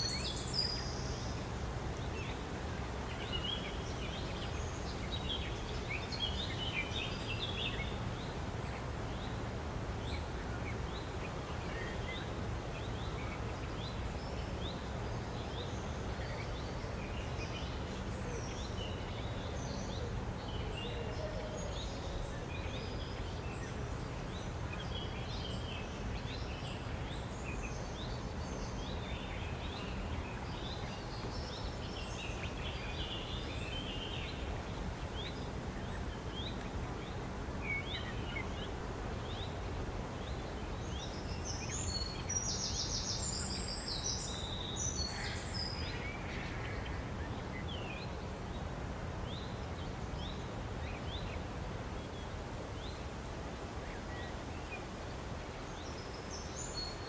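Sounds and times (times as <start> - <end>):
low outdoor background noise: 0.0 - 57.0.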